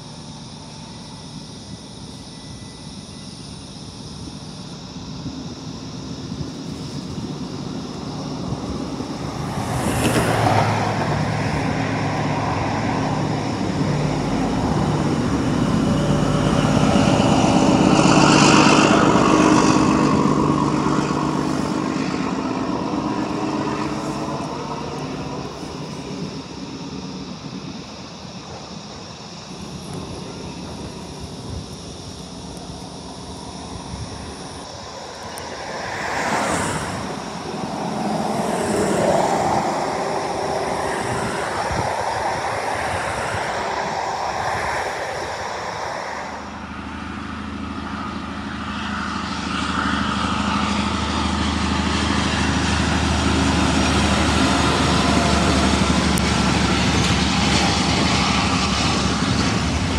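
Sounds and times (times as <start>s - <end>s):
diesel train engine and turbo whine: 0.0s - 59.9s
wheel and rail noise: 0.0s - 59.9s.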